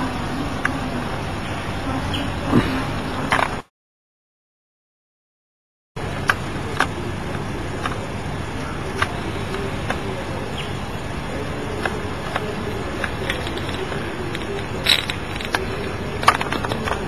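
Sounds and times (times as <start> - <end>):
low street rumble: 0.0 - 3.7, 6.0 - 17.0.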